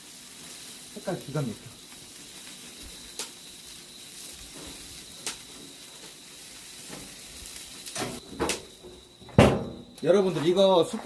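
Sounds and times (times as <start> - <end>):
meat sizzling on a grill: 0.0 - 11.0
sharp crackle: 0.0 - 11.0.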